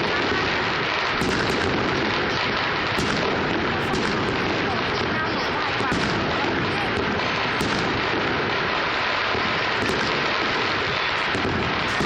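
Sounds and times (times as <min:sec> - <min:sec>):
fireworks crackling and rumbling: 0:00.0 - 0:12.0.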